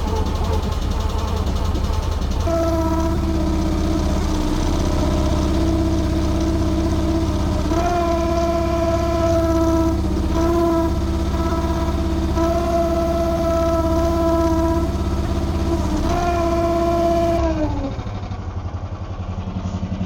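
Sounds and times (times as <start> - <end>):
excavator engine running: 0.0 - 20.0
steady whining tone: 0.0 - 20.0.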